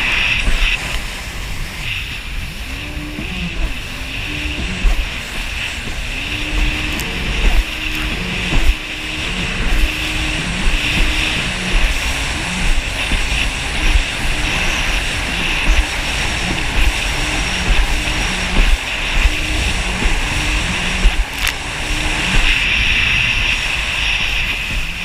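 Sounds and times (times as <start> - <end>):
hull thumping on waves: 0.0 - 25.0
jet ski engine running: 0.0 - 25.0
rushing water: 0.0 - 25.0
wind noise: 0.0 - 25.0.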